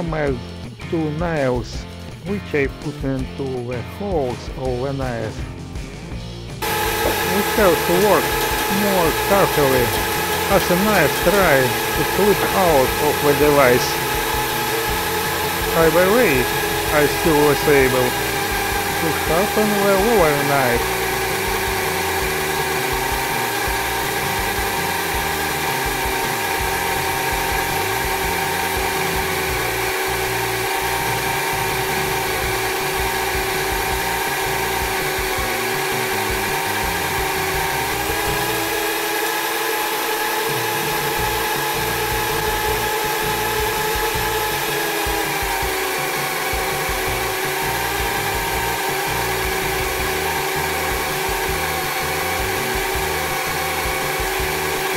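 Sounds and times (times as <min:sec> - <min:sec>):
blade grinding on disc: 0:06.6 - 0:54.9
drill motor whining: 0:06.6 - 0:54.9.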